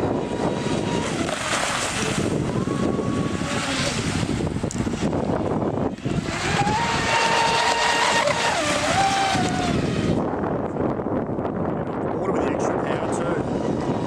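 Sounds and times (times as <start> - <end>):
model boat motor whining: 0.0 - 10.9, 12.2 - 14.0
water noise: 0.0 - 14.0
wind: 0.0 - 14.0.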